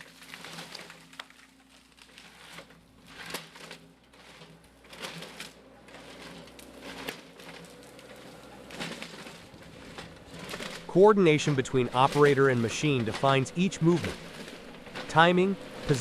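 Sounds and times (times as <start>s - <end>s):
forestry machine humming: 0.0s - 16.0s
logs and branches cracking: 0.0s - 16.0s.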